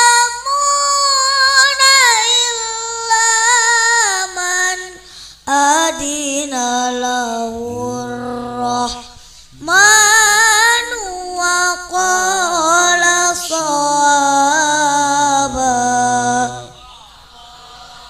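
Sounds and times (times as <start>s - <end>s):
child chanting recitation: 0.0s - 16.8s.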